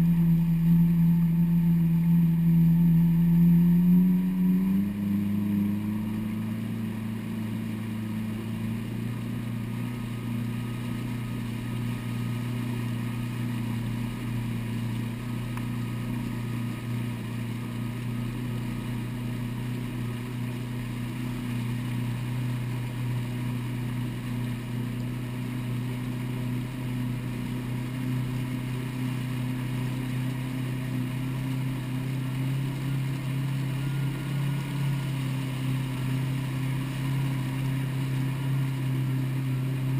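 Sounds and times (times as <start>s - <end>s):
jet ski engine drone: 0.0s - 39.9s.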